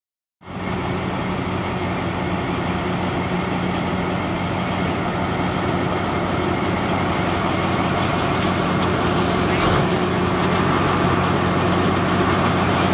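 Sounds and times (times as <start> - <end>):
locomotive diesel engine humming: 0.4 - 12.9.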